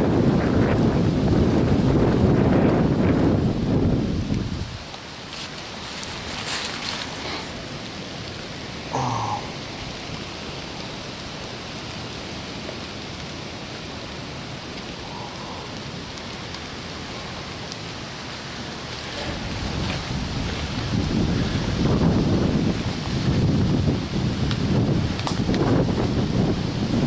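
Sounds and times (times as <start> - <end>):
rain falling in woodland: 0.0 - 27.0.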